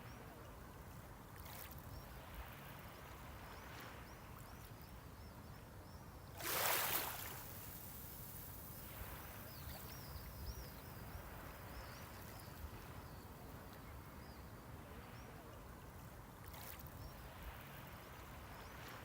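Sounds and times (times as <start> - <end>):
low rumble of surf: 0.0 - 19.0.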